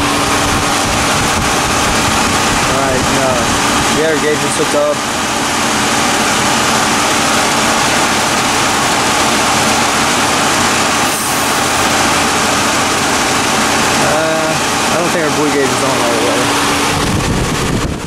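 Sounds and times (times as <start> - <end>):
engine running with steady rush: 0.0 - 18.0.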